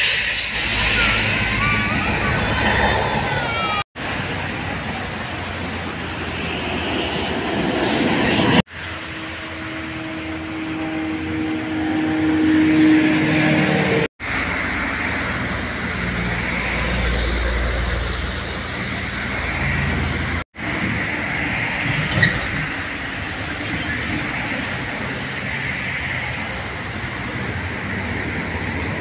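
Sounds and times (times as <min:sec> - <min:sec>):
bus engine rumble: 0:00.0 - 0:29.0
highway traffic rushing: 0:00.0 - 0:29.0.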